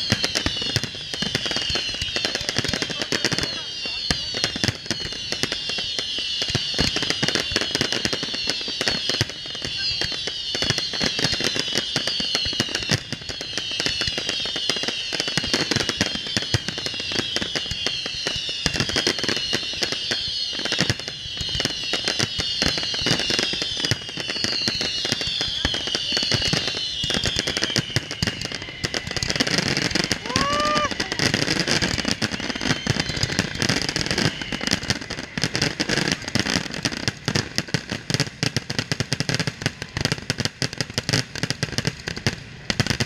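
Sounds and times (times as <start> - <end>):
falling whistling tones: 0.0 - 36.8
fireworks bangs and crackles: 0.0 - 43.0.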